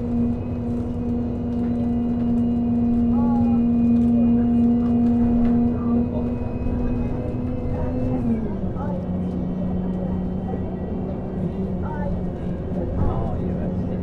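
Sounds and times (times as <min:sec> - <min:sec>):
bus engine whine and rumble: 0:00.0 - 0:14.0.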